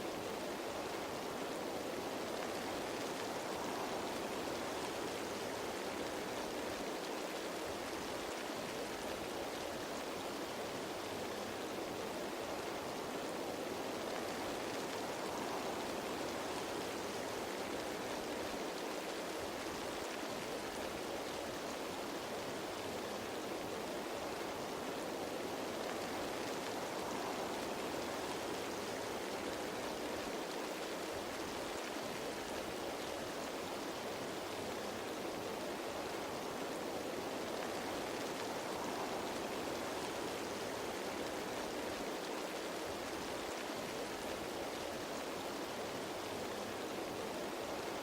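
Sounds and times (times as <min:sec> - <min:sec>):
rain falling on leaves: 0:00.0 - 0:48.0.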